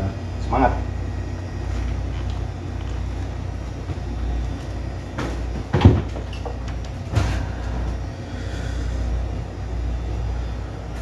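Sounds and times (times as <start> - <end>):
ship machinery low rumble: 0.0 - 11.0.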